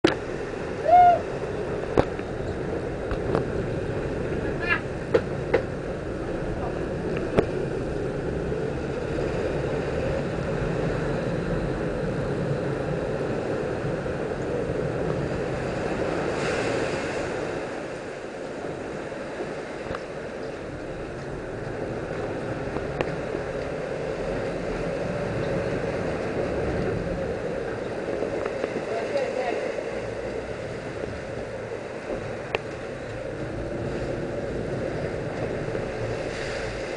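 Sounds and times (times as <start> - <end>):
boat engine drone: 0.0 - 36.9
rushing wake water: 0.0 - 36.9.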